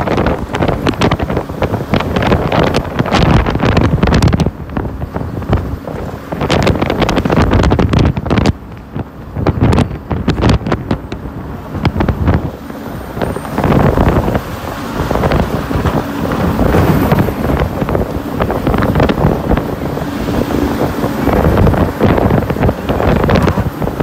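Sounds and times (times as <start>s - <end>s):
road traffic rumble: 0.0s - 24.0s
wind buffeting microphone: 0.0s - 24.0s.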